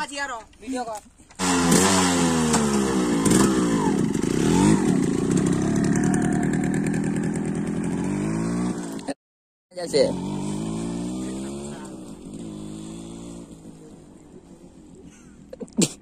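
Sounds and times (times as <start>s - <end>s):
motorcycle engine revving: 1.4s - 9.2s, 9.8s - 15.5s.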